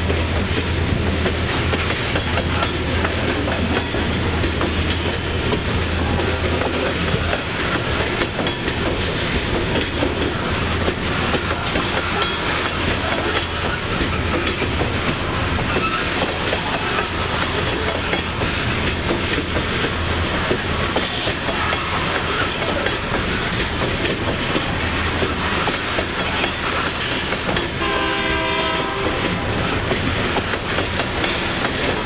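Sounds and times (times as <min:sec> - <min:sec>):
freight train rumble: 0:00.0 - 0:32.0
wheels clattering over rails: 0:00.0 - 0:32.0.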